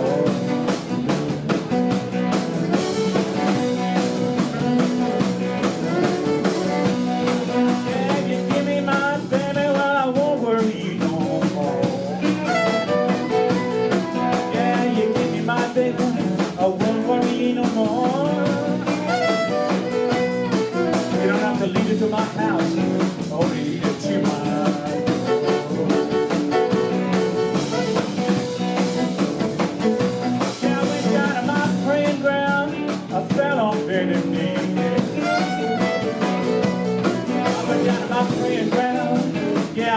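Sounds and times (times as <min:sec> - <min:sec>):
blues band playing: 0:00.0 - 0:39.9.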